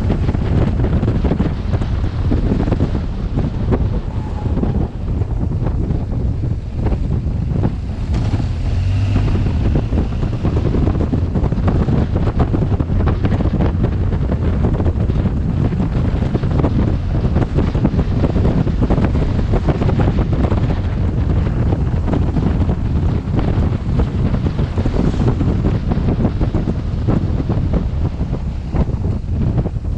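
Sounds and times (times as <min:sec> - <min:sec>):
heavy wind buffeting microphone: 0:00.0 - 0:29.9
motorcycle low rumble: 0:00.0 - 0:29.9.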